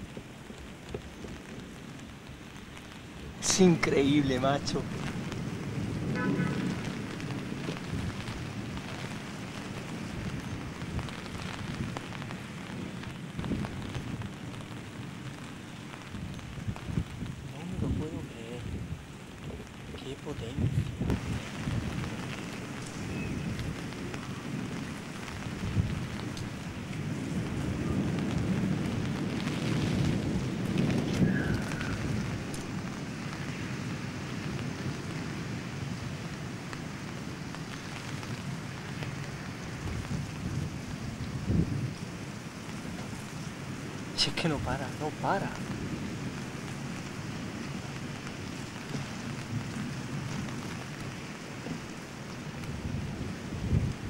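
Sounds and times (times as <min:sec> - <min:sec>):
low rumble of thunder: 0:00.0 - 0:54.0
torrential rain pouring: 0:00.0 - 0:54.0.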